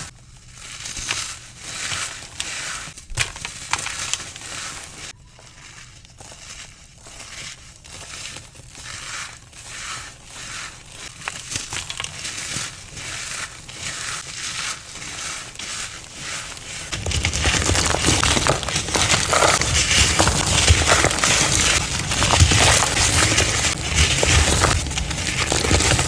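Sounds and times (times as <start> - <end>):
crunching of dry powder: 0.0 - 26.0.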